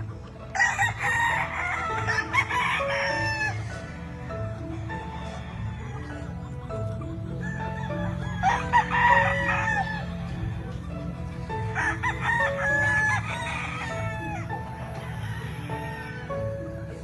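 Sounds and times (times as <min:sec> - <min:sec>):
rooster crowing: 0:00.5 - 0:17.0.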